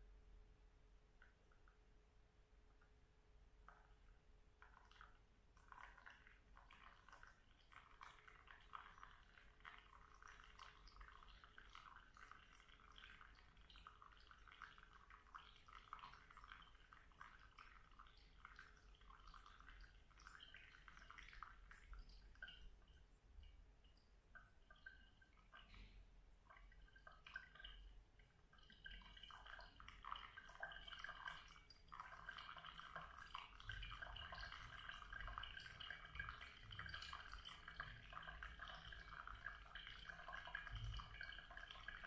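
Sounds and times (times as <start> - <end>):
water trickling onto coffee grounds: 3.7 - 42.0.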